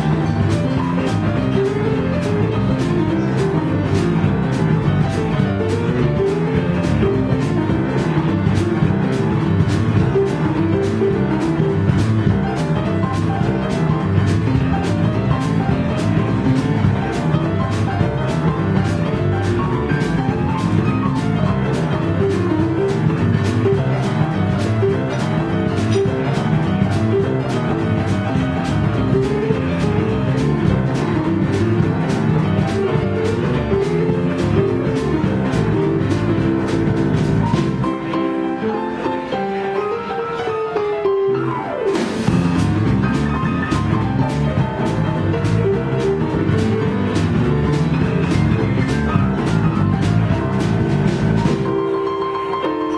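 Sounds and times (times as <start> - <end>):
drum kit cymbal beat: 0.0 - 38.4, 41.9 - 52.1
bass guitar: 0.0 - 52.9
electric keyboard piano: 0.0 - 52.9.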